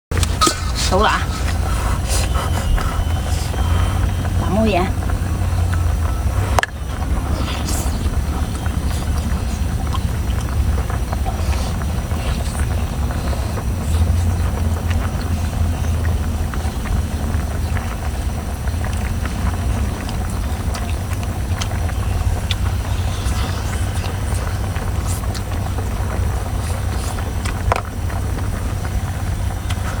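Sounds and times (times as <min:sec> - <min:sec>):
low engine drone: 0:00.1 - 0:30.0.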